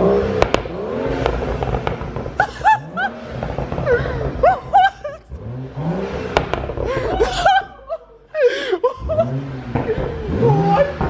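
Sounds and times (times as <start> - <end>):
exhaust cracks: 0.0 - 8.3, 9.0 - 11.0
car engine revving: 0.0 - 11.0.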